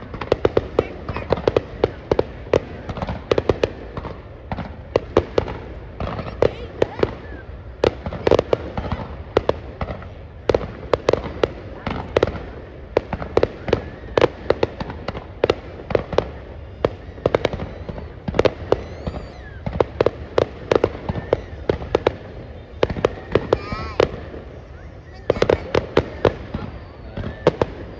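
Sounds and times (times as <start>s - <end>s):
fireworks banging: 0.0s - 27.9s
whistling firework shriek: 5.3s - 27.9s.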